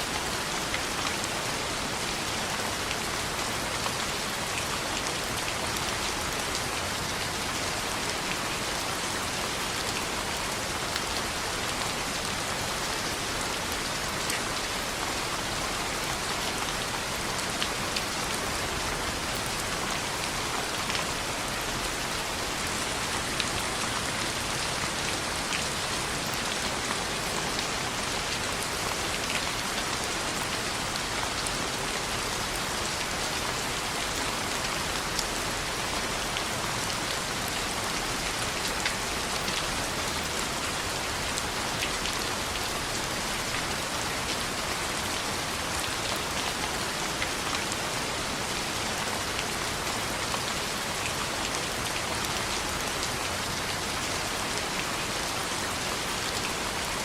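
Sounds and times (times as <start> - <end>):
rain falling on a window: 0.0 - 57.0.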